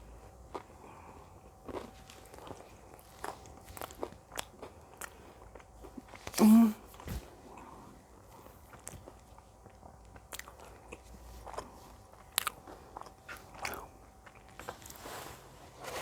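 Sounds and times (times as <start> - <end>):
biting and chewing food: 0.4 - 15.1.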